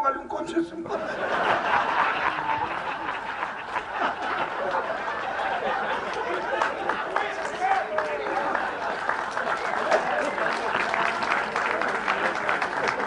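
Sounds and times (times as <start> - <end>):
audience laughing: 0.8 - 13.0
crowd chattering: 0.8 - 13.0.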